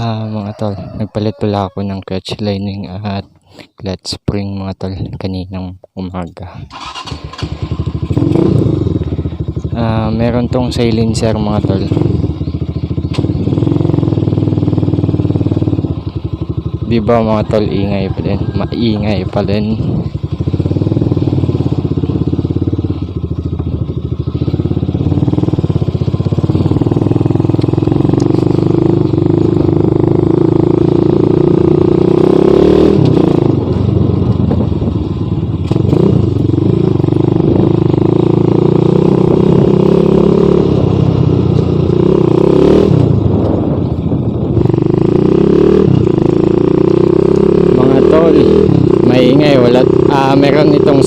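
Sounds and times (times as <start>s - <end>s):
motorcycle engine exhaust: 6.7s - 51.0s.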